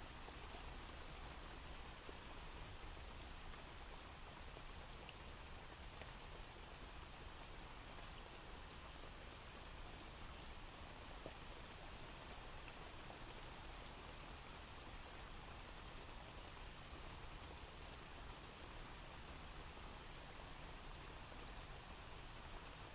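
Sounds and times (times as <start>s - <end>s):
faint steady rain: 0.0s - 22.9s.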